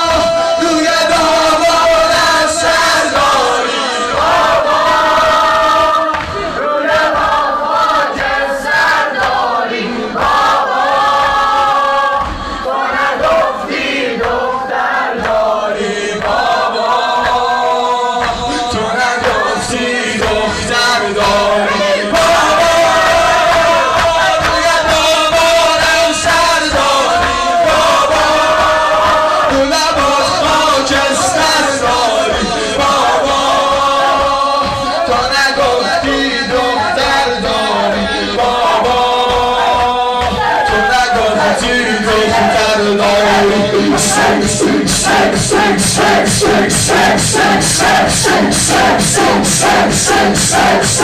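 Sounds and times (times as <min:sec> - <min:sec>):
men chanting in unison: 0:00.0 - 0:51.0.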